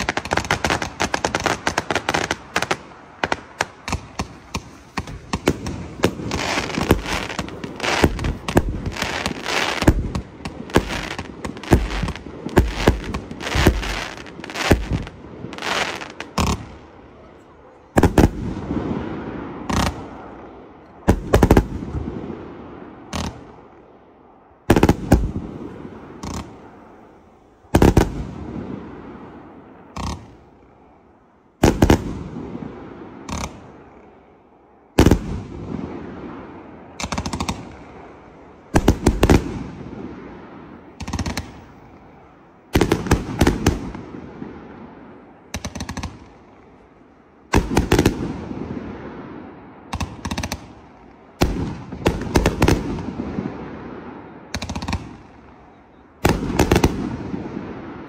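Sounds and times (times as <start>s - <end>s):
fireworks bangs with echo: 0.0s - 23.9s, 24.6s - 27.0s, 27.6s - 30.7s, 31.6s - 34.2s, 34.9s - 46.8s, 47.5s - 58.0s.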